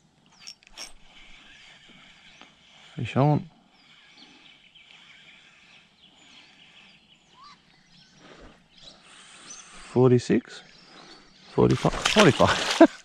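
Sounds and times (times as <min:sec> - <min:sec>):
faint bird chirps: 0:00.3 - 0:12.8.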